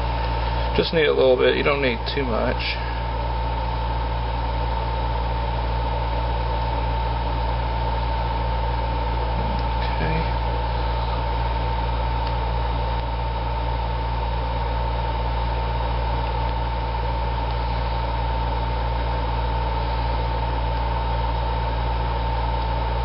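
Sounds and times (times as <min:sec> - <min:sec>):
air conditioner humming: 0:00.0 - 0:23.0.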